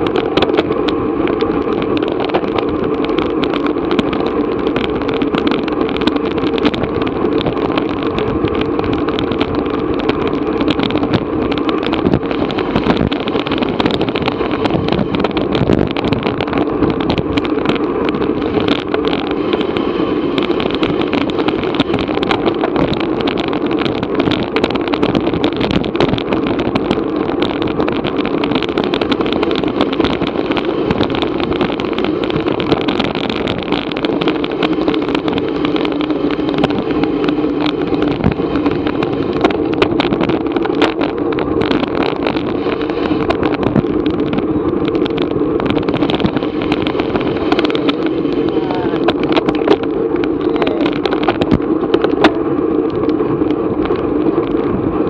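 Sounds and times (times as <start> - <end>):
rushing wind and road noise: 0.0 - 55.0
small rattles and clicks: 0.0 - 55.0.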